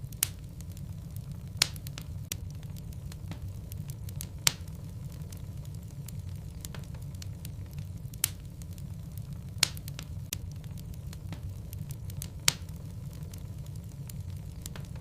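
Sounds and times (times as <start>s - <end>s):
fireplace logs crackling: 0.0s - 15.0s.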